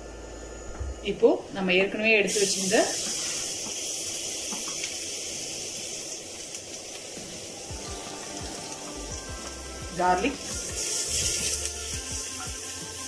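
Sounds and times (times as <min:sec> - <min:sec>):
garlic sizzling in hot oil: 0:02.0 - 0:13.0.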